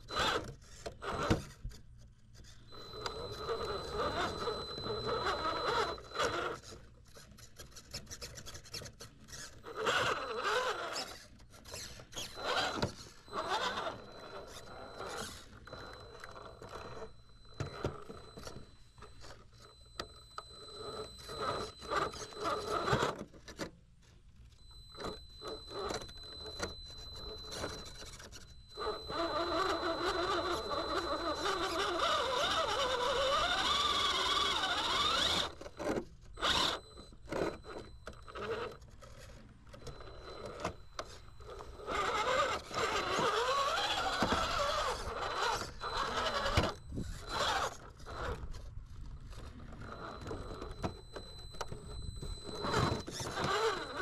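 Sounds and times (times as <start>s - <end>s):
electric motor and gears whining: 0.0s - 1.7s, 2.4s - 7.4s, 8.9s - 23.4s, 24.6s - 54.0s.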